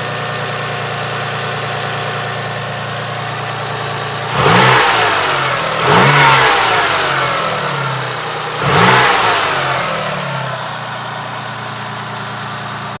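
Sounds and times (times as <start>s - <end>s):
car engine revving and idling: 0.0s - 13.0s.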